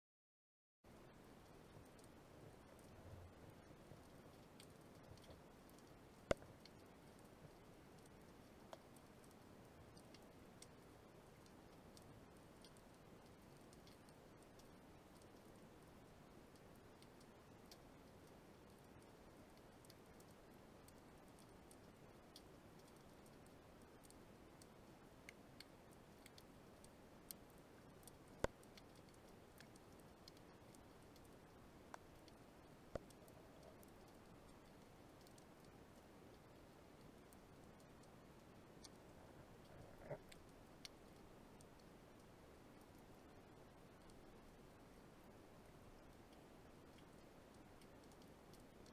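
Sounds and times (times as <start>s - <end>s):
faint underwater background: 0.9s - 48.9s.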